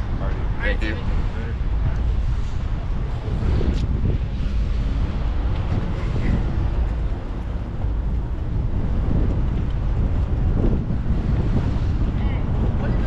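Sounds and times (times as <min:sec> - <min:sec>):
vehicle and road noise: 0:00.0 - 0:13.0
wind buffeting microphone: 0:00.0 - 0:13.0.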